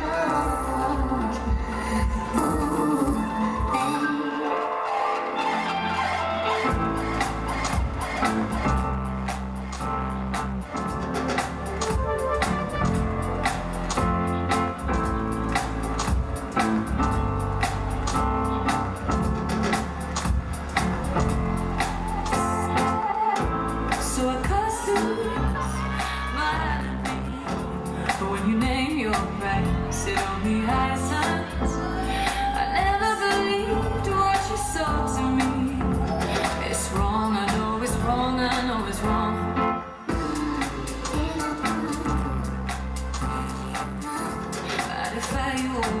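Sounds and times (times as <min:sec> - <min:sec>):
song over loudspeakers: 0:00.0 - 0:46.0.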